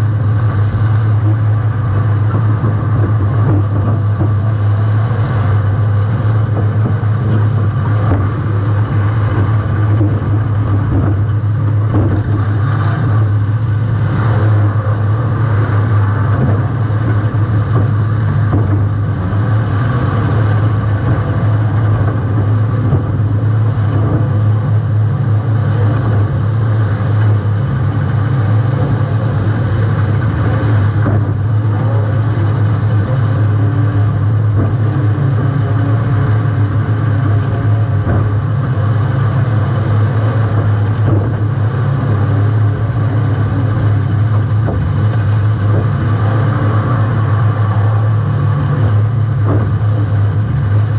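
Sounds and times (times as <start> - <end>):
car engine low drone: 0.0 - 50.9.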